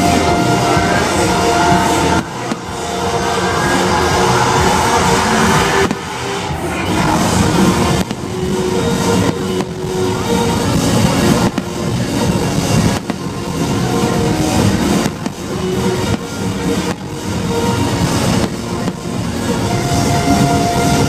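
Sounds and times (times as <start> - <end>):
fireworks bangs: 0.0 - 21.0
loud music over sound system: 0.0 - 21.0.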